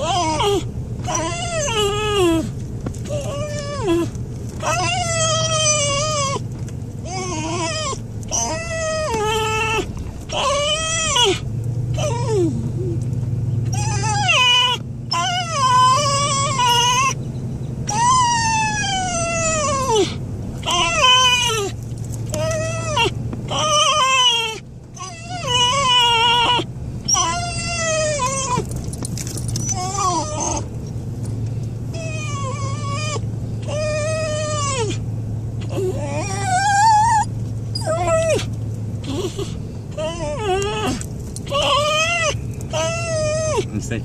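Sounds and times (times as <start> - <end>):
dog whining: 0.0 - 30.9, 31.9 - 44.0.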